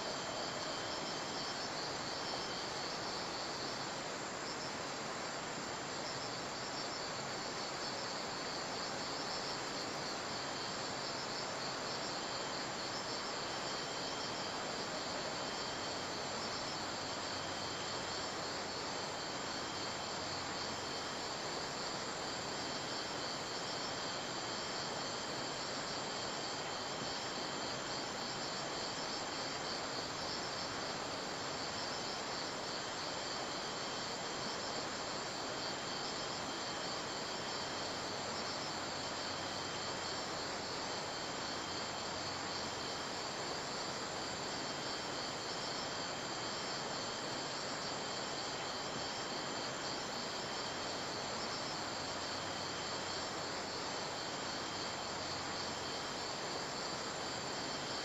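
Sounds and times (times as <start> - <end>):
background hiss: 0.0 - 58.0
crickets chirping: 0.0 - 58.0.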